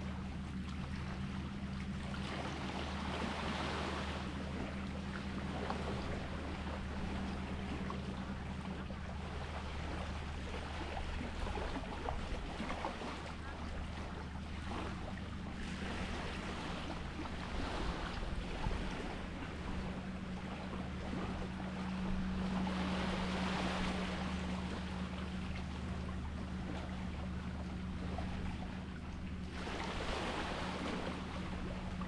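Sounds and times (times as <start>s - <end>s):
steady low hum: 0.0s - 32.0s
sea waves washing: 2.2s - 32.0s.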